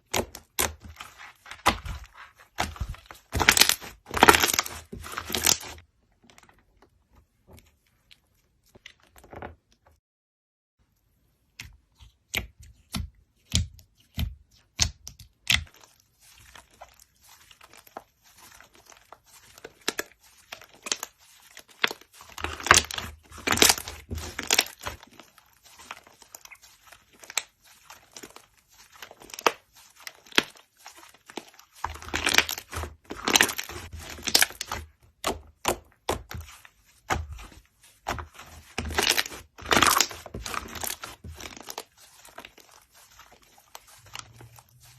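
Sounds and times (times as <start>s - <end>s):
slime squishing: 0.0s - 9.2s, 11.4s - 44.9s.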